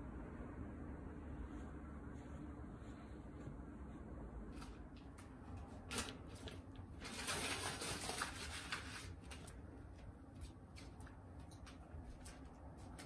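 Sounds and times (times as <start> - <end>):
lint roller crackling: 1.4 - 13.0.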